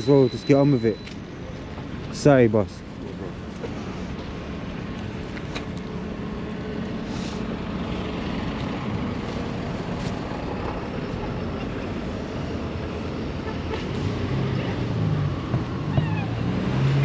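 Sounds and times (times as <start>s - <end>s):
wind and road rumble: 0.0s - 17.0s.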